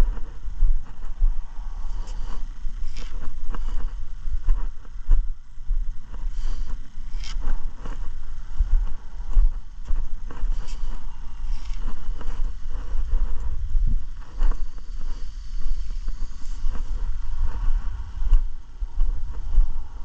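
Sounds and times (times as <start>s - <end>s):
footsteps on asphalt: 0.0s - 20.0s
wind buffeting microphone: 0.0s - 20.0s.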